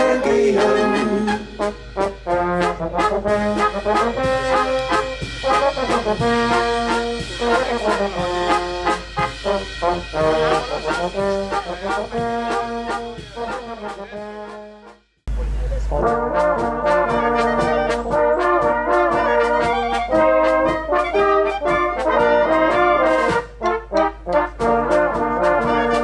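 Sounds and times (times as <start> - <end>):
brass band playing over beat: 0.0 - 15.1, 15.9 - 26.0.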